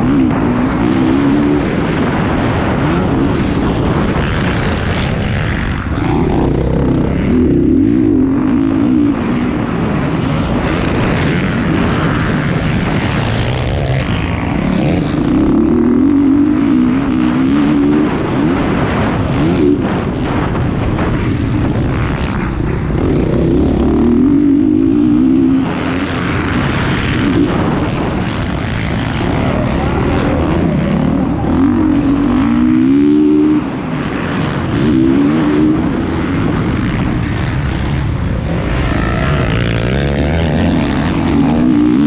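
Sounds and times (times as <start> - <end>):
motocross bike engine revving: 0.0 - 42.0.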